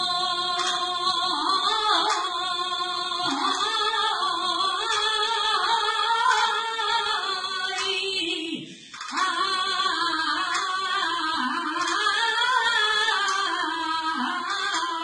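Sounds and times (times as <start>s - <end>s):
woman singing unaccompanied lament: 0.0s - 15.0s.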